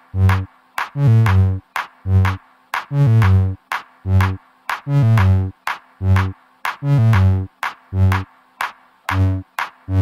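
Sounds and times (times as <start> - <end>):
electronic music with drum-machine beat: 0.0 - 10.0.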